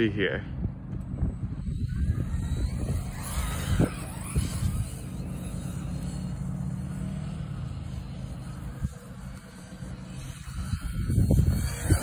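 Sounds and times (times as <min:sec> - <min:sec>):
toy truck motor rumble: 0:01.0 - 0:12.0.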